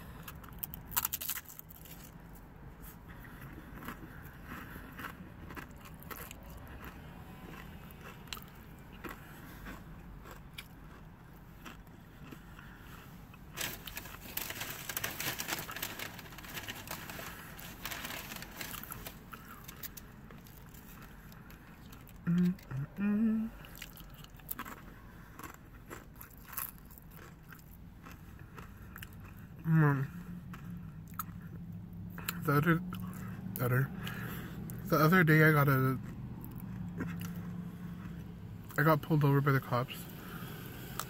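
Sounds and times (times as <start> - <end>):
person chewing food: 0.0 - 34.9, 36.0 - 38.8, 40.1 - 41.0
crunching and crackling: 0.2 - 23.0, 23.6 - 41.0.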